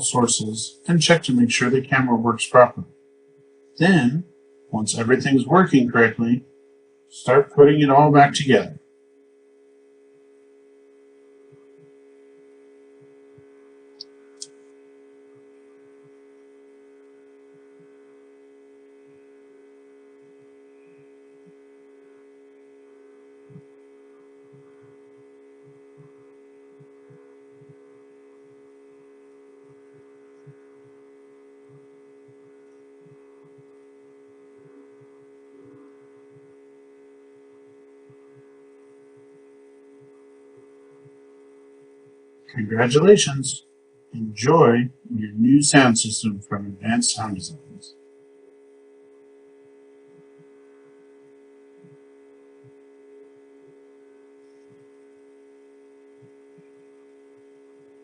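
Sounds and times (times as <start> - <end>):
faint electrical hum: 0.0 - 58.0.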